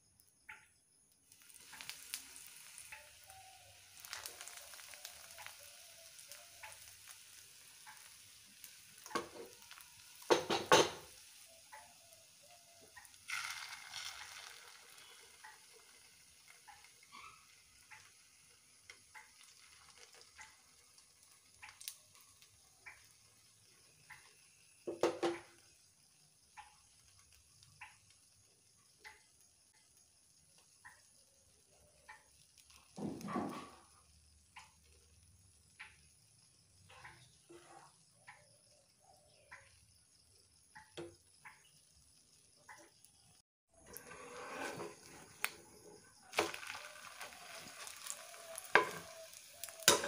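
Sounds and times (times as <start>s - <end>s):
oil sizzling in a frying pan: 0.4s - 50.0s.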